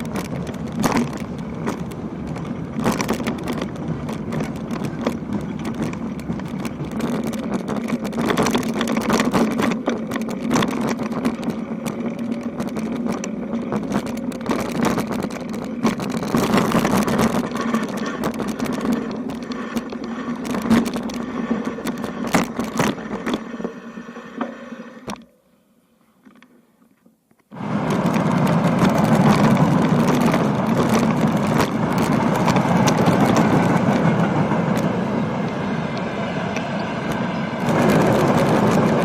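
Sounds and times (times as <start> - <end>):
bicycle rattling and knocking: 0.0 - 23.8, 27.4 - 35.6, 36.6 - 39.0
bicycle rolling on rough road: 0.0 - 25.4, 26.2 - 39.0.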